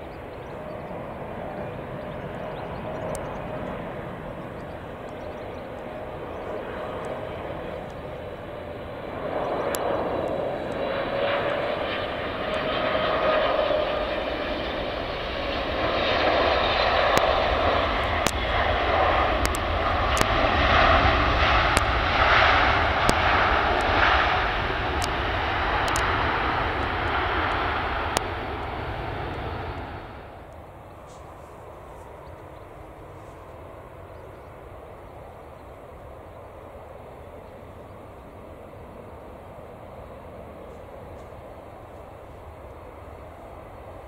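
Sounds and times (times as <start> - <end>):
jet engines whine and rumble: 0.0 - 44.0
jet reverse thrust roar: 0.0 - 44.0.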